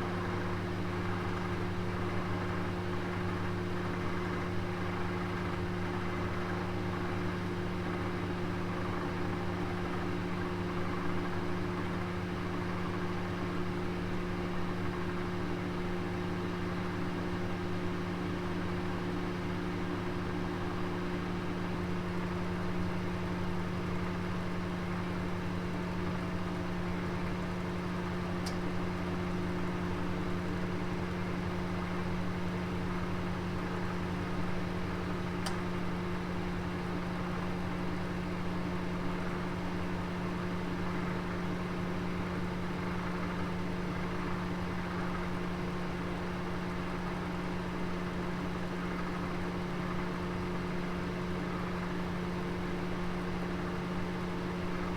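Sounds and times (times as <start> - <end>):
oven hum and fan whir: 0.0 - 54.9.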